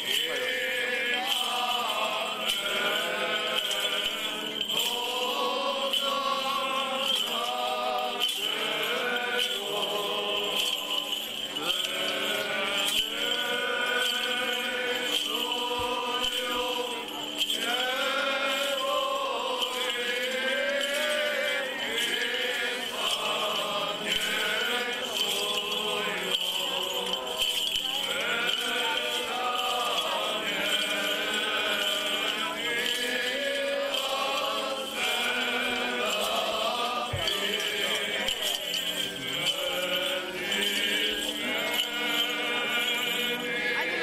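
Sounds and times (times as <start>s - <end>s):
group chanting: 0.0s - 44.0s.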